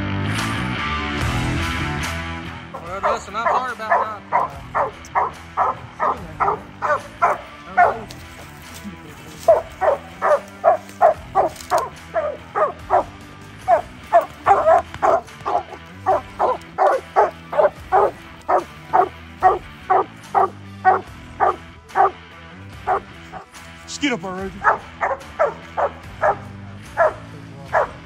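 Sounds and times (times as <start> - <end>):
dog barking: 2.8 - 8.4, 9.3 - 22.2, 22.8 - 23.5, 24.6 - 28.0.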